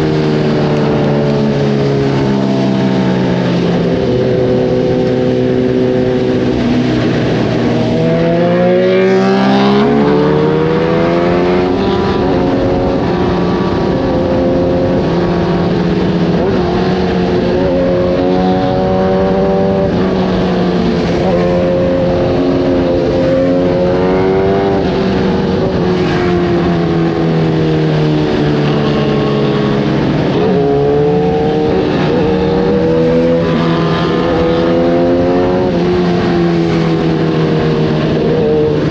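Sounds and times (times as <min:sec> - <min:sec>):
sport bike engine revving: 0:03.5 - 0:38.9.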